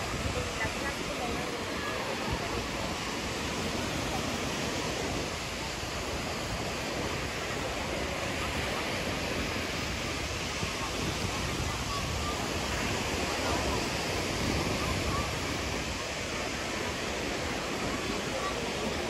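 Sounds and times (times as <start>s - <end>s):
murmur of voices: 0.0s - 19.0s
surf breaking on beach: 0.0s - 19.0s.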